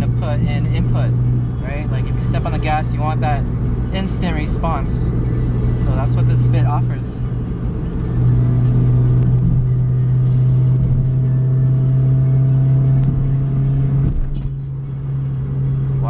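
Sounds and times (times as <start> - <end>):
car engine droning: 0.0 - 16.0
road noise inside car: 0.0 - 16.0.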